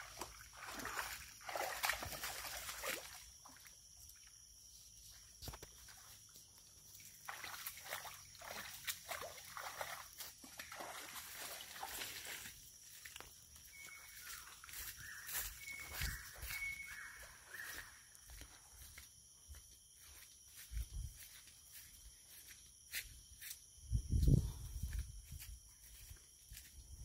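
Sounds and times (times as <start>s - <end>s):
footsteps through wet undergrowth: 0.0s - 3.6s, 5.1s - 27.0s.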